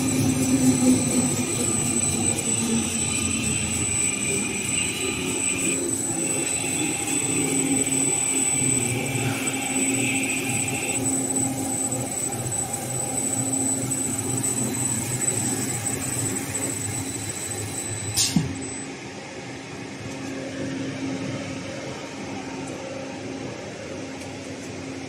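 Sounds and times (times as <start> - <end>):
slitter machine humming and whining: 0.0 - 25.0.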